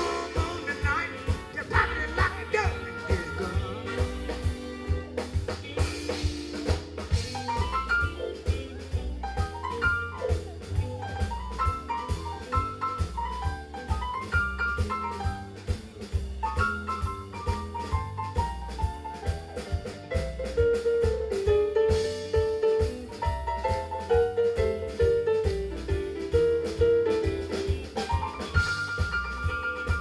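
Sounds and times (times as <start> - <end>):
drum kit beat: 0.0 - 30.0
electric guitar: 0.0 - 30.0
keyboard melody: 0.0 - 30.0.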